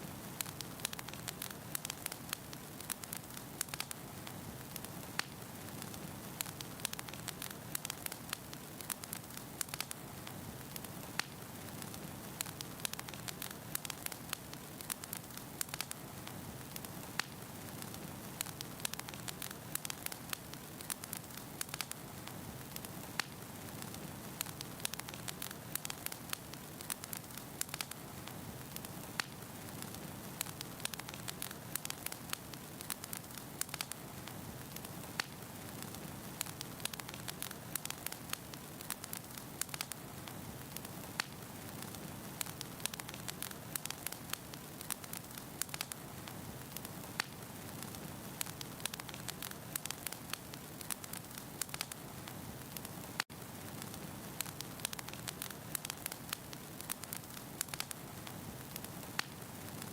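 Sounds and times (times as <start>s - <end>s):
firewood crackling in fireplace: 0.0s - 59.9s.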